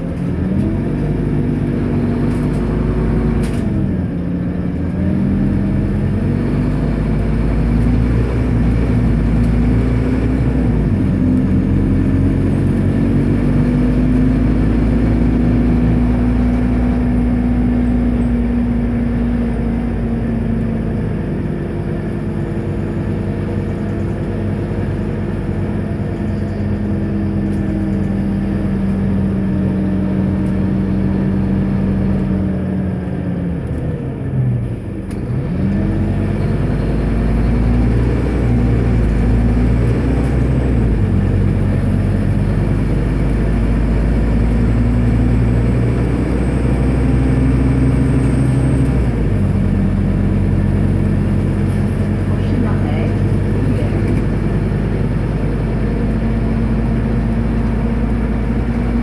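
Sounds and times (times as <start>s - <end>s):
bus engine: 0.0s - 59.0s
low road rumble: 0.0s - 59.0s.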